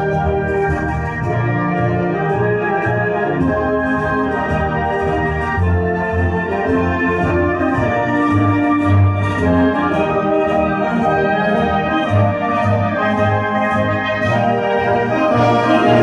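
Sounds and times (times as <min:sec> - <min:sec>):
deep bass line: 0:00.0 - 0:16.0
loud instrumental music: 0:00.0 - 0:16.0.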